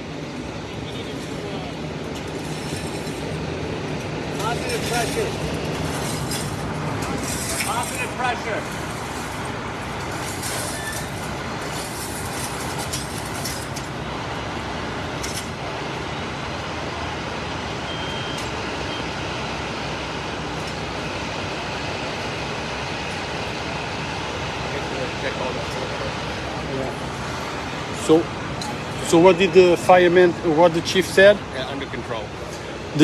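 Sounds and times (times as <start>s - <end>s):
street traffic: 0.0s - 33.0s
vehicle engines idling: 0.0s - 33.0s.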